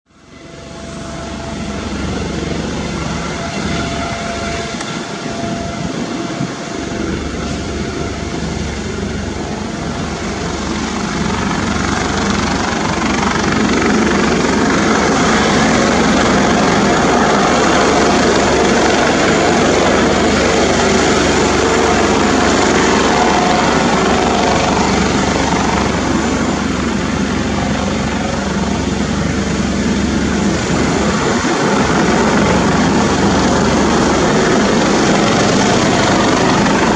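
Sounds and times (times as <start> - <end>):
helicopter rotor and turbine: 0.1 - 36.9.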